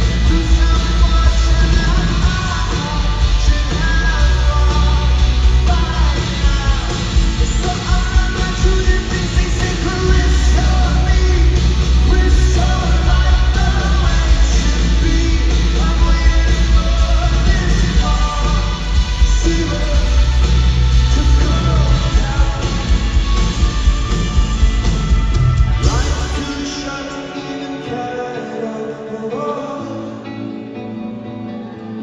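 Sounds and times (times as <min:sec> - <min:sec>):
heavy steady bass: 0:00.0 - 0:26.8
live rock band: 0:00.0 - 0:32.0
person singing: 0:00.0 - 0:32.0.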